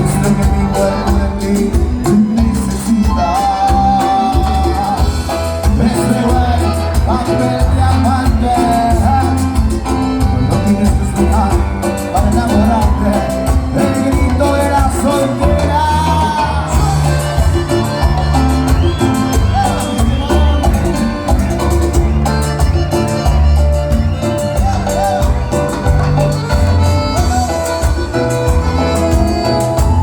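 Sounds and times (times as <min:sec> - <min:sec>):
latin dance band playing: 0:00.0 - 0:30.0.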